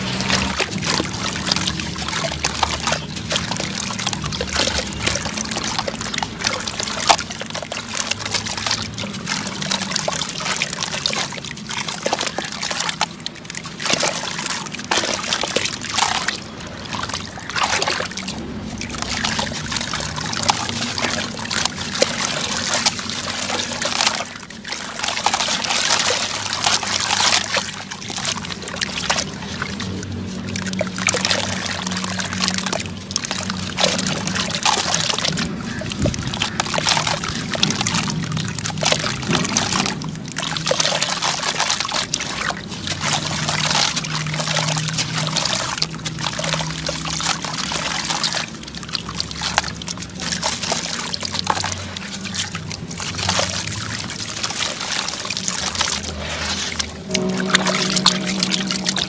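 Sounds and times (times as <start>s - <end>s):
sand and cement trickling: 0.0s - 59.0s.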